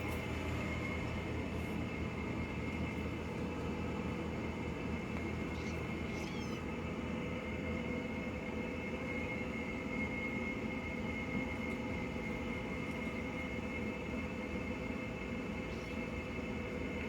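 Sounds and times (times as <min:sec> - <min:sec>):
background hum and hiss: 0:00.0 - 0:17.0
faint high whine: 0:00.0 - 0:17.0.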